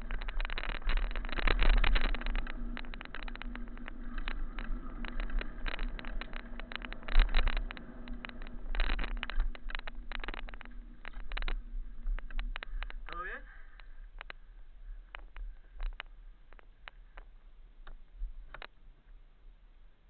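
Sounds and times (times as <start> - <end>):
rattling on a rocky trail: 0.0 - 19.2
wind rumble on microphone: 0.0 - 20.0.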